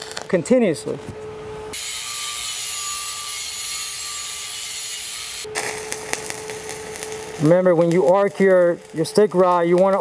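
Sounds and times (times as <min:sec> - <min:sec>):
welding arc hissing and crackling: 0:00.0 - 0:00.4, 0:01.8 - 0:10.0.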